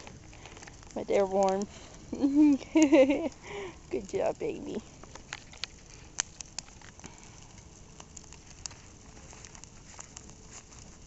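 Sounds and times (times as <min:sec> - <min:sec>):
bonfire crackling and popping: 0:00.0 - 0:11.0.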